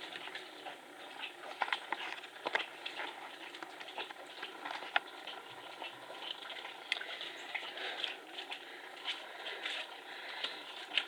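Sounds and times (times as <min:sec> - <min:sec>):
pet lapping water: 0:00.0 - 0:11.0.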